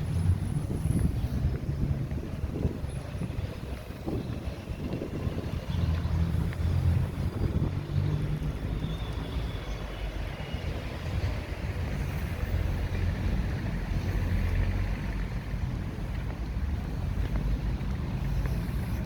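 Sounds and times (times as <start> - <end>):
street traffic passing: 0.0 - 19.0
wind rumble on microphone: 0.0 - 19.0.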